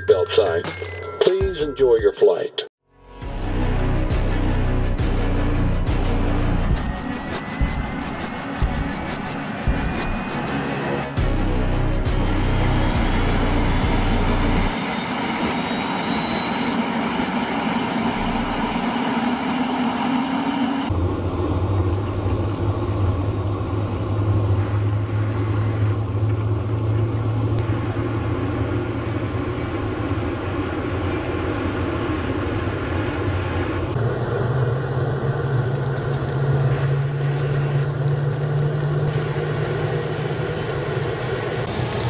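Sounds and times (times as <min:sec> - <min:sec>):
jet engine droning: 0:05.2 - 0:42.0.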